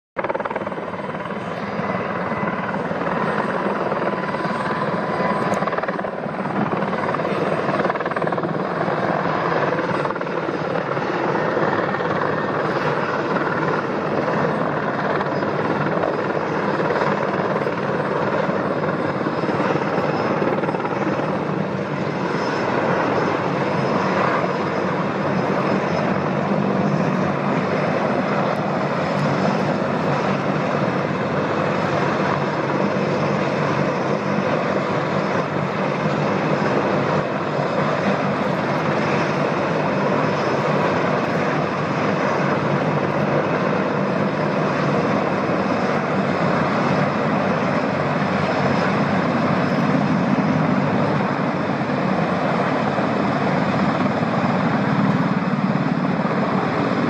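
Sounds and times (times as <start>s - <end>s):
helicopter flying overhead: 0.2s - 57.0s.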